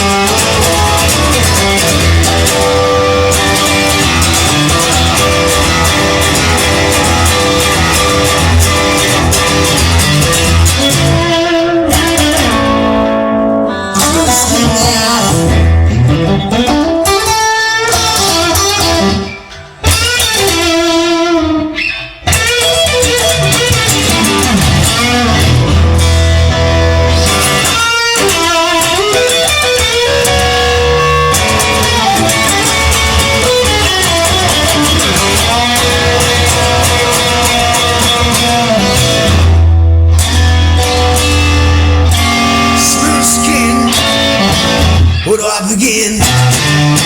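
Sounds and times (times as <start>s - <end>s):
blues band playing: 0.0s - 47.0s
electric guitar with bending notes: 0.0s - 47.0s.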